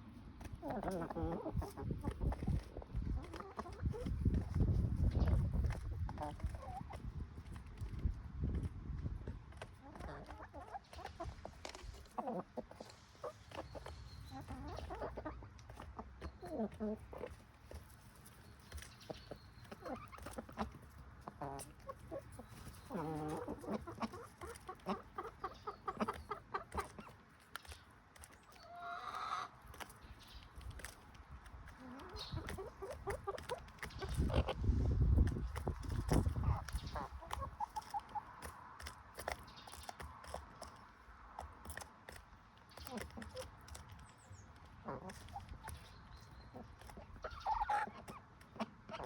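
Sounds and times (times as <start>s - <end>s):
hens clucking: 0.0s - 49.0s.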